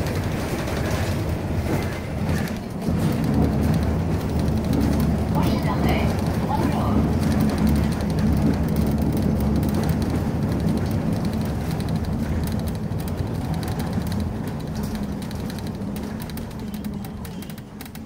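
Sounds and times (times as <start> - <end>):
tram low rumble: 0.0 - 18.0.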